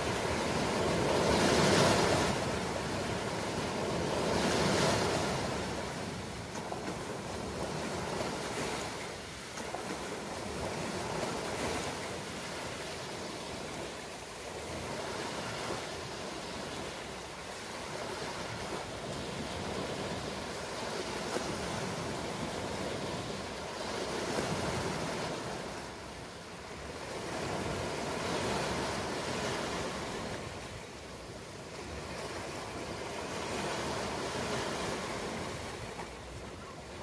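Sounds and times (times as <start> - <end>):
ocean surf washing: 0.0 - 37.0.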